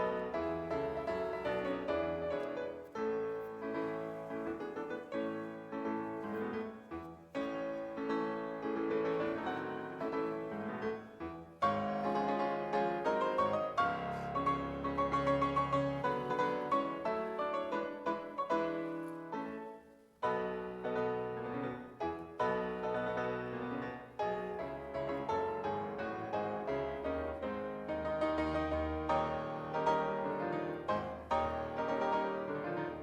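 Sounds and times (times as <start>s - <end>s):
solo piano music: 0.0s - 33.0s.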